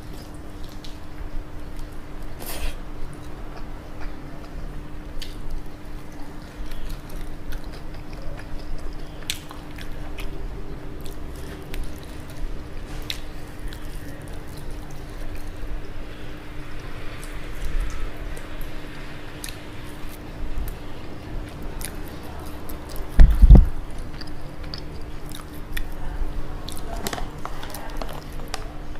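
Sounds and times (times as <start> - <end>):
faint steady hum: 0.0 - 28.9
close chewing: 1.7 - 28.9.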